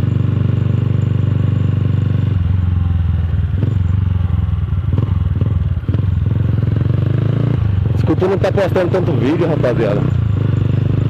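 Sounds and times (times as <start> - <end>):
motorcycle exhaust running: 0.0 - 11.0.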